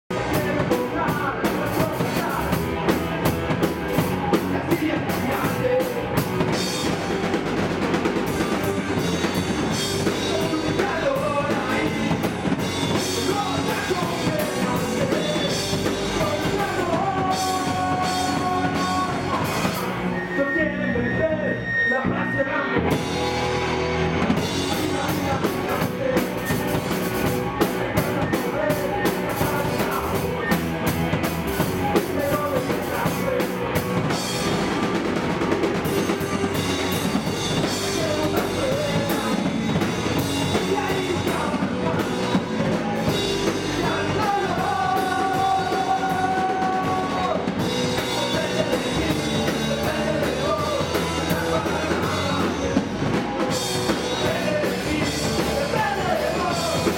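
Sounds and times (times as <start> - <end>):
punk rock band playing: 0.0 - 56.9
person singing: 0.1 - 56.9.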